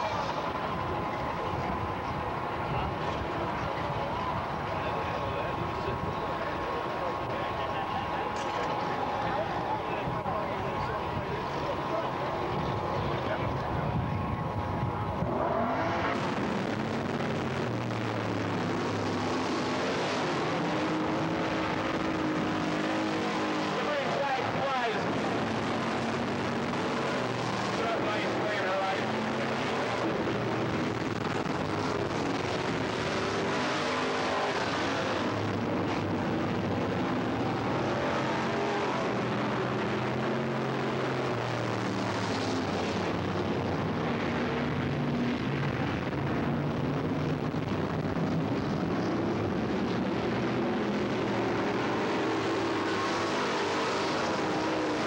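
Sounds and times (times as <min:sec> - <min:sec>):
race car engines droning: 0:00.0 - 0:55.0.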